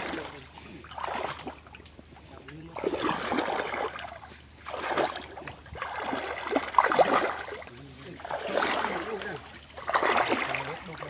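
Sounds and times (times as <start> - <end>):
hands splashing in muddy water: 0.0 - 1.9, 2.8 - 11.0.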